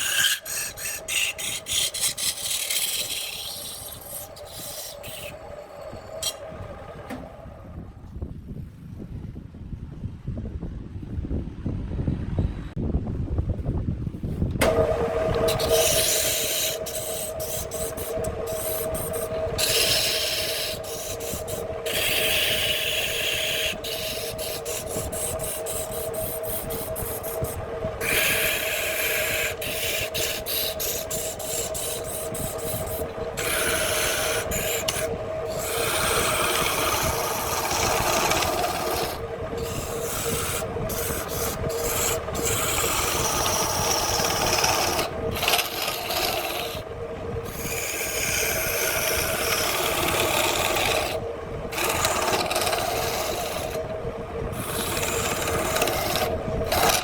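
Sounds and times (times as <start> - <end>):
tool scraping spinning wood: 0.0 - 7.9, 14.6 - 57.0
lathe motor hum: 0.0 - 8.1, 14.5 - 57.0.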